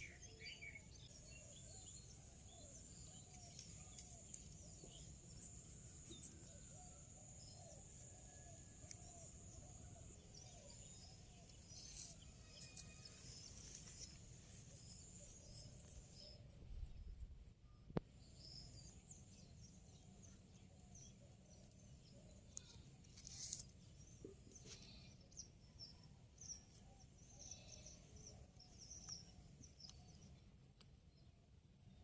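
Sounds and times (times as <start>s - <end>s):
birds chirping softly: 0.0s - 32.0s.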